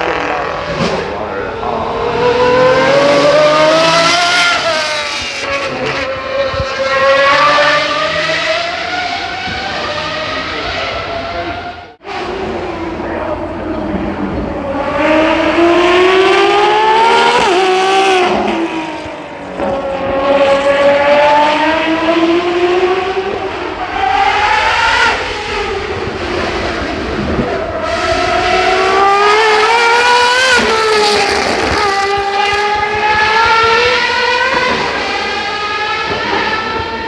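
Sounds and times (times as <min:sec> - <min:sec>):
racing car engine accelerating: 0:00.0 - 0:37.0.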